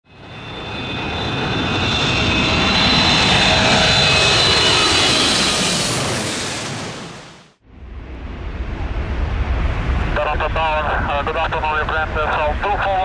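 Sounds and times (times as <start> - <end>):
jet airliner engines passing: 0.1 - 13.0.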